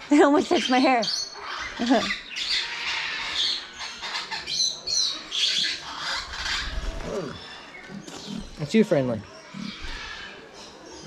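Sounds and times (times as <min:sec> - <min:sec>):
birds squawking and chirping: 0:00.0 - 0:11.0.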